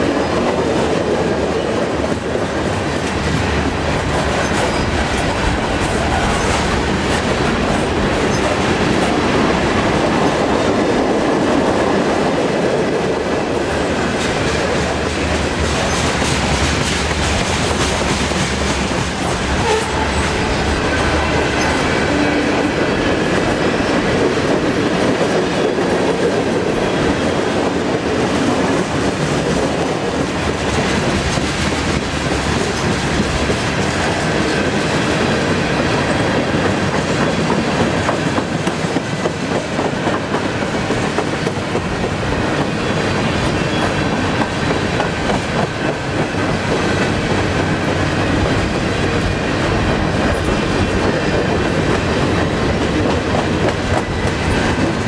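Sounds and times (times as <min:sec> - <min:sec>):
freight train rumbling past: 0:00.0 - 0:55.0
wheels clickety-clack over track: 0:00.0 - 0:55.0.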